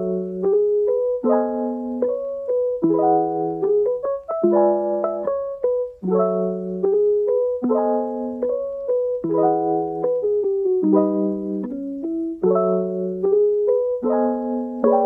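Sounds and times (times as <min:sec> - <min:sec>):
keyboard chords and melody: 0:00.0 - 0:15.0.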